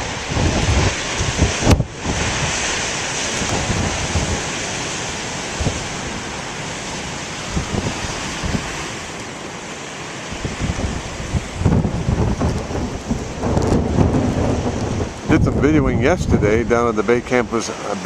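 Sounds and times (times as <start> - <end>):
storm waves breaking: 0.0 - 18.0
wind buffeting microphone: 0.0 - 18.0.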